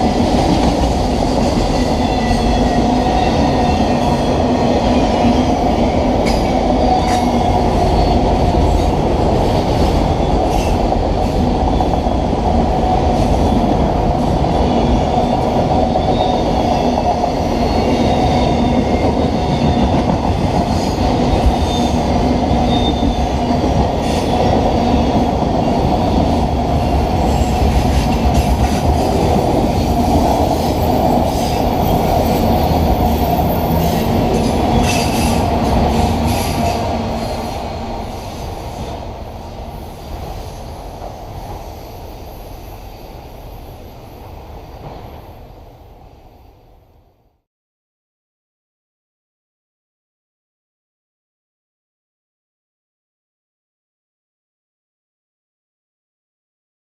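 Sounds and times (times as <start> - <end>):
train wheels rumbling on rail: 0.0 - 46.4.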